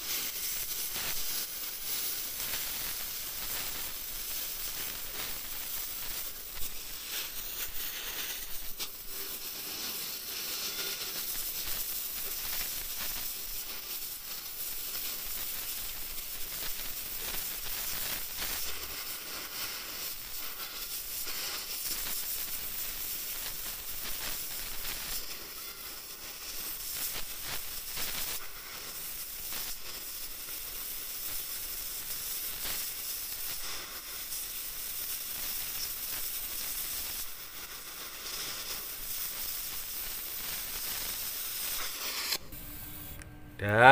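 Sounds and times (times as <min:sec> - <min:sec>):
crackling of cut metal: 0:00.0 - 0:43.2
cutting torch hissing: 0:00.0 - 0:43.9.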